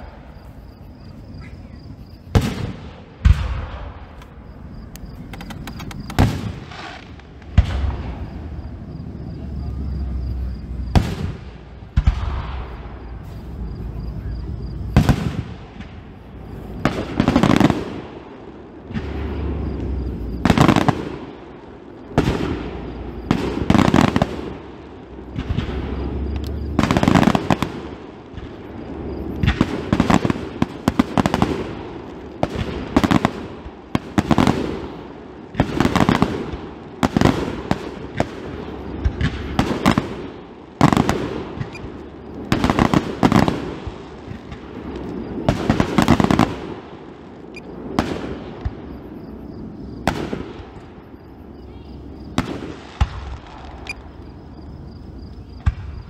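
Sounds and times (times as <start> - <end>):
fireworks booming with echo: 0.0 - 56.0.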